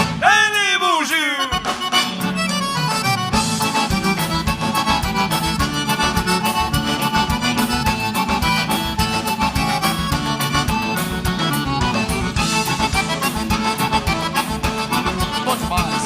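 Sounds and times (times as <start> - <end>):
bass: 0.0 - 0.5, 1.6 - 16.0
accordion melody: 0.0 - 16.0
steady beat: 0.0 - 16.0.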